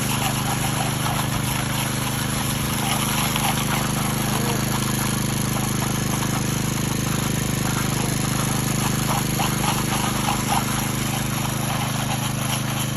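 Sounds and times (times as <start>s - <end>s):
power trowel engine running: 0.0s - 12.9s.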